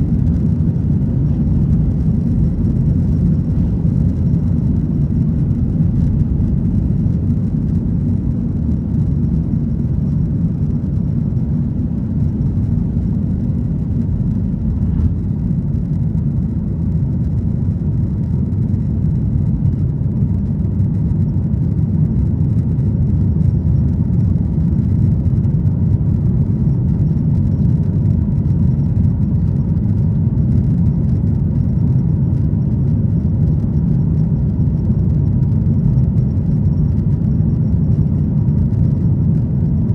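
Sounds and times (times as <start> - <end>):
jet engine low rumble: 0.0 - 39.9.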